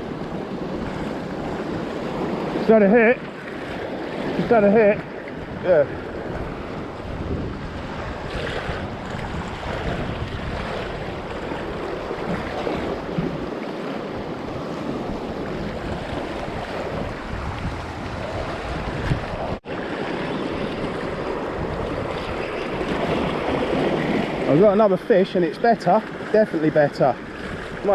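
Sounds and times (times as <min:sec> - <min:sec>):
wind buffeting microphone: 0:00.0 - 0:26.5, 0:27.1 - 0:27.9
waves washing against rocks: 0:00.0 - 0:27.9.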